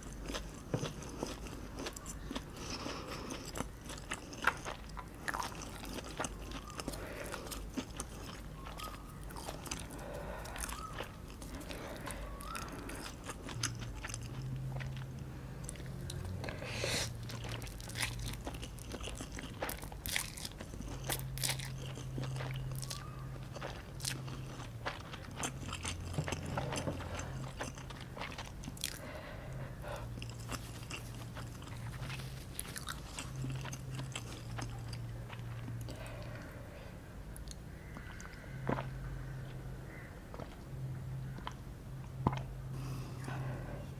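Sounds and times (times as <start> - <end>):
crunchy chewing: 0.0 - 36.6, 37.4 - 43.6.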